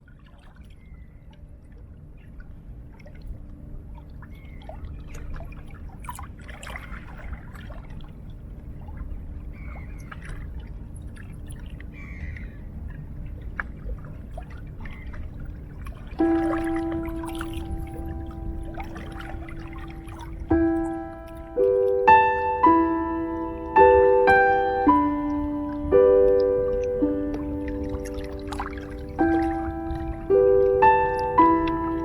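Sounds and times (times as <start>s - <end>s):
small water splashes: 0.0s - 23.1s, 23.8s - 32.0s
sea water lapping at shore: 0.0s - 32.0s.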